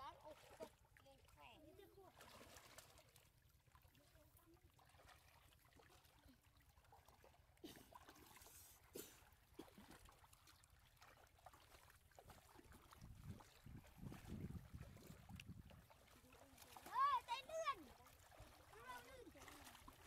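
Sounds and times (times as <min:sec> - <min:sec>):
people wading through muddy water: 0:00.0 - 0:20.0.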